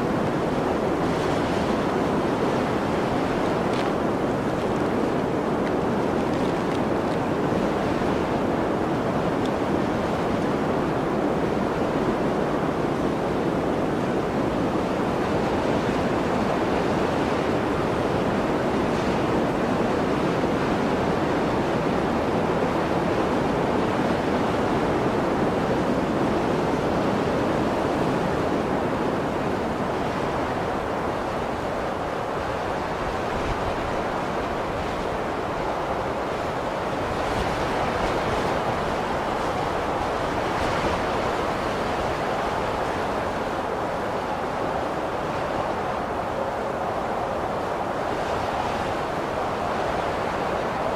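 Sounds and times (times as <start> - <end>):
blizzard wind rushing: 0.0 - 50.9.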